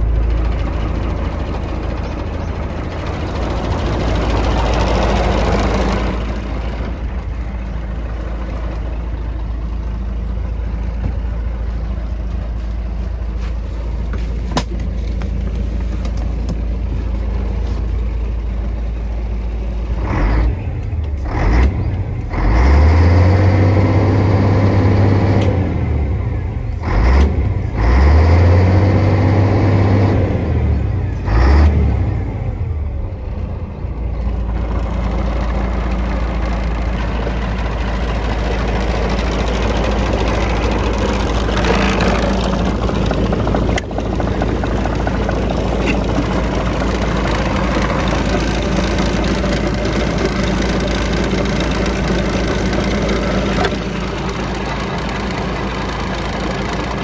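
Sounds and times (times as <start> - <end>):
truck diesel engine idling and revving: 0.0 - 57.0.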